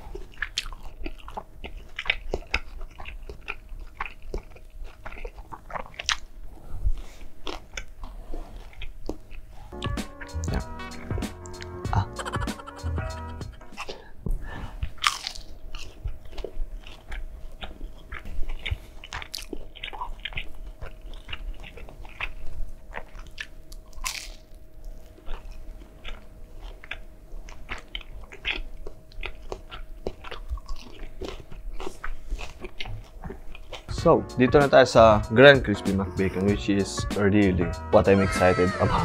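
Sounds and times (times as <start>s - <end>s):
crunchy chewing: 0.0s - 14.0s, 14.8s - 33.9s.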